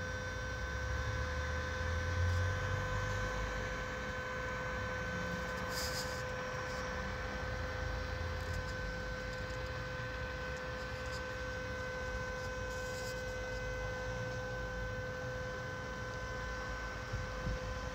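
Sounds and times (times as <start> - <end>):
steady electrical hum: 0.0 - 17.9.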